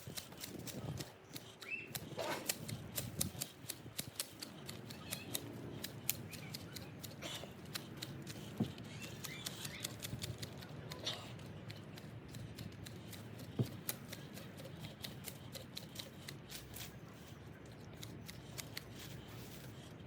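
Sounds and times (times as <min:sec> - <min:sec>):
hand pruners snipping stems: 0:00.0 - 0:20.0.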